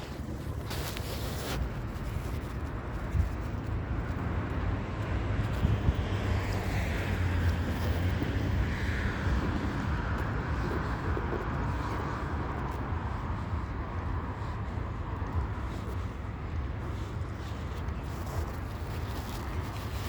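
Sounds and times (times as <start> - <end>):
cars passing: 0.0 - 20.0
road rumble and tyre hiss: 0.0 - 20.0.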